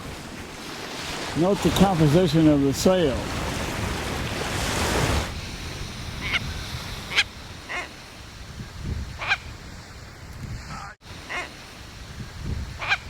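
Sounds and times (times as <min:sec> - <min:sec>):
wind and surf noise: 0:00.0 - 0:13.0.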